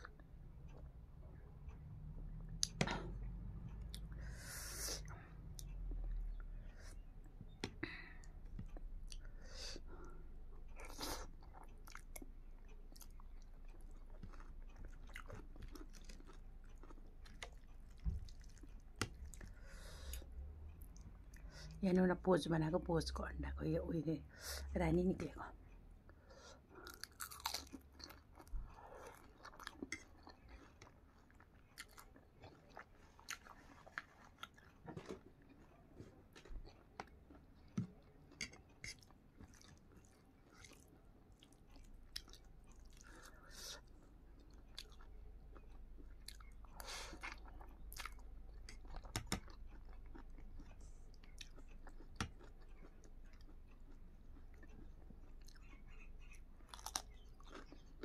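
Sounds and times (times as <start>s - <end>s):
faint chewing mouth sounds: 0.0s - 21.8s, 24.6s - 58.0s
faint low hum: 0.0s - 58.0s.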